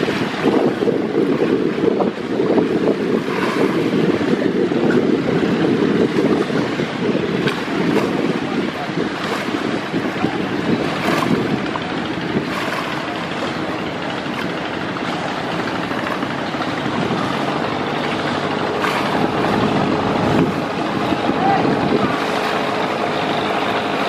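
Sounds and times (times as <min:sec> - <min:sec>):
boat engine rumbling: 0:00.0 - 0:24.0
water rushing: 0:00.0 - 0:24.0.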